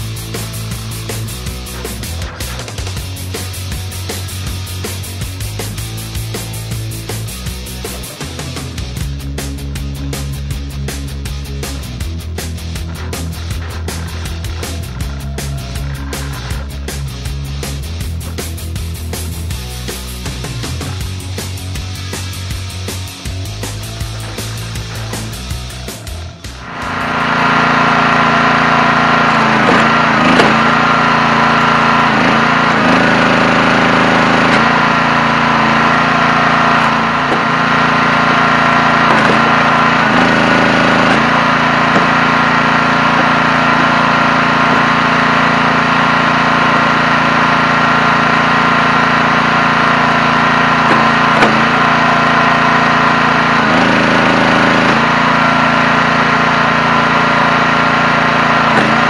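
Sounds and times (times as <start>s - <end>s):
log splitter engine running: 0.0s - 59.0s.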